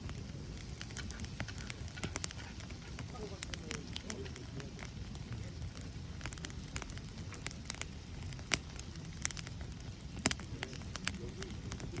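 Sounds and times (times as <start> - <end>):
campfire crackling and popping: 0.0 - 12.0
low rumble of flames: 0.0 - 12.0.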